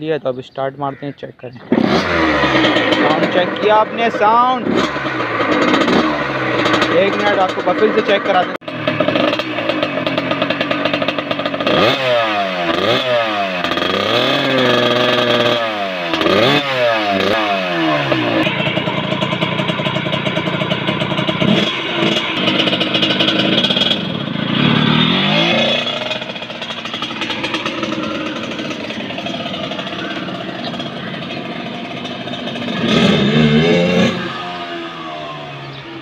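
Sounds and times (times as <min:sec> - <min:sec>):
two-stroke motorcycle engine revving: 0:01.6 - 0:36.0.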